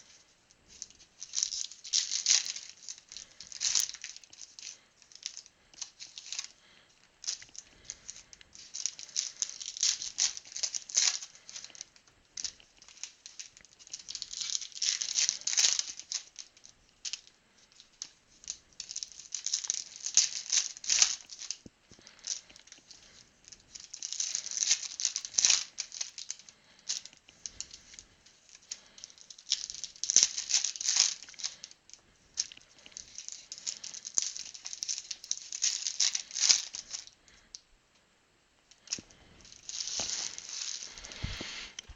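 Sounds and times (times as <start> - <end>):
foil wrappers crinkling: 0.0 - 37.6, 38.7 - 41.9.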